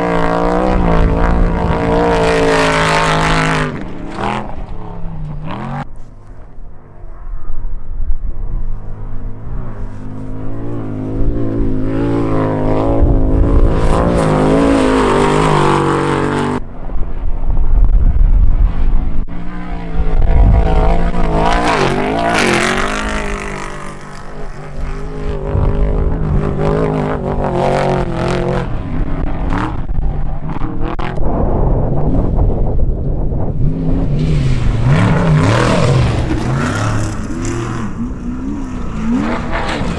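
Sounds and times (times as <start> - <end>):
race vehicle engines revving: 0.0 - 39.9.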